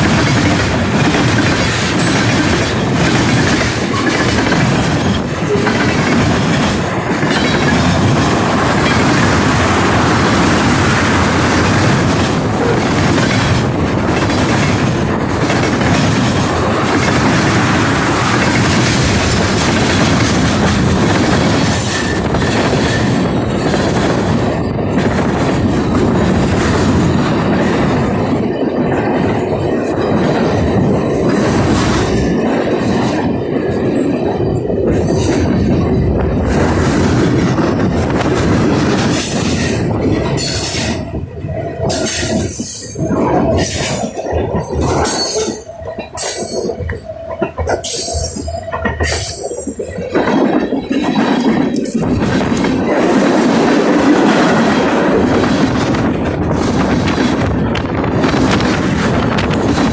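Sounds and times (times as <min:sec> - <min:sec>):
train wheels clattering over rails: 0:00.0 - 0:59.9.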